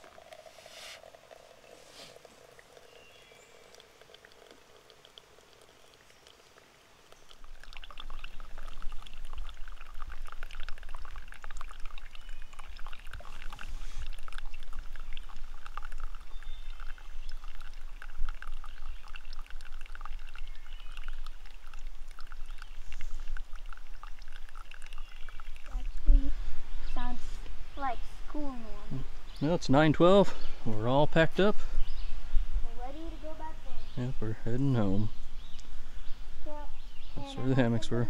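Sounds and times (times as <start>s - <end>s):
water trickling into coffee filter: 0.0s - 38.0s.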